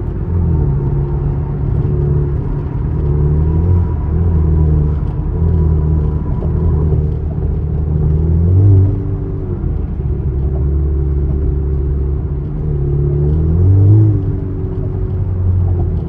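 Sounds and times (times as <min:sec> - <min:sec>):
car engine revving at speed: 0:00.0 - 0:16.0.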